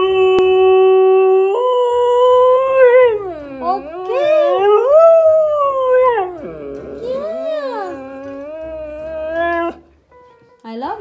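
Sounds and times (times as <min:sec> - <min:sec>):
dog howling: 0:00.0 - 0:09.9.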